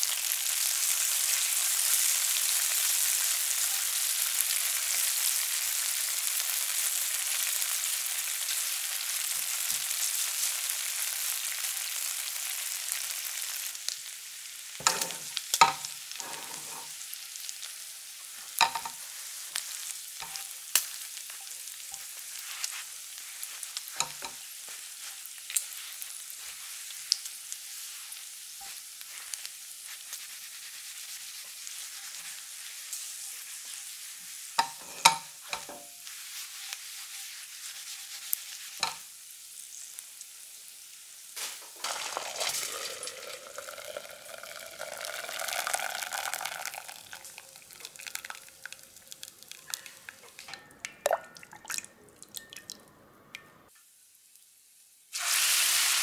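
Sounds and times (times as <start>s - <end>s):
food sizzling in a frying pan: 0.0s - 50.6s, 53.7s - 56.0s.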